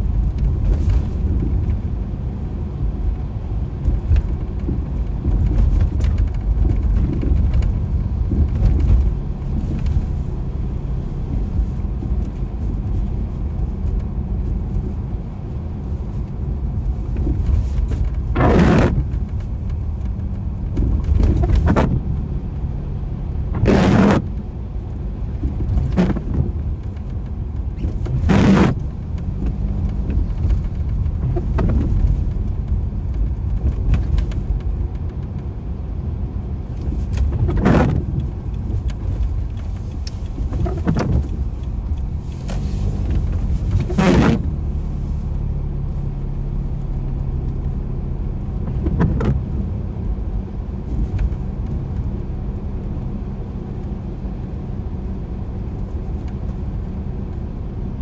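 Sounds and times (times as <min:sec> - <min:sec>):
car tyres and engine rumble: 0:00.0 - 0:58.0
tyres swishing on wet road: 0:00.0 - 0:58.0.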